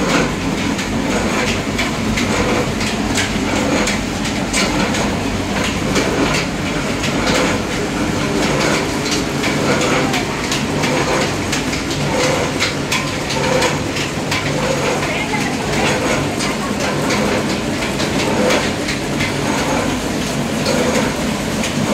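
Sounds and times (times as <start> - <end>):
oil press machine humming: 0.0 - 21.9.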